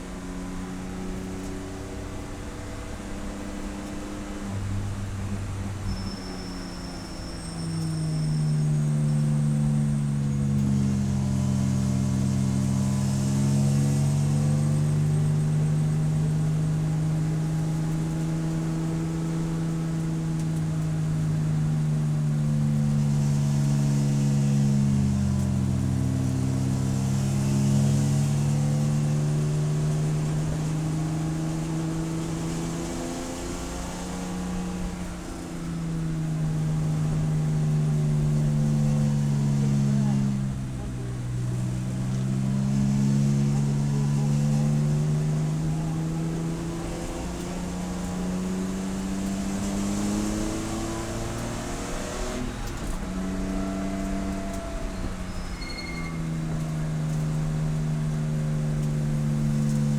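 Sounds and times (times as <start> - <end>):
race car engine revving: 8.2 - 59.9.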